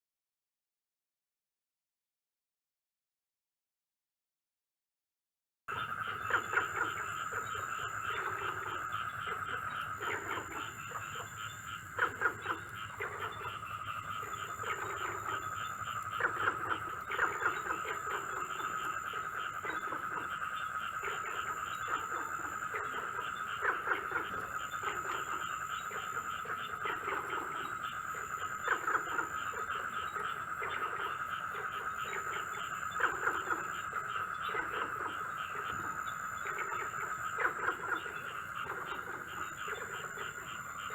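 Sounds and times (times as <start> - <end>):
frogs croaking: 5.7 - 40.9
insect trill and buzz: 5.7 - 40.9.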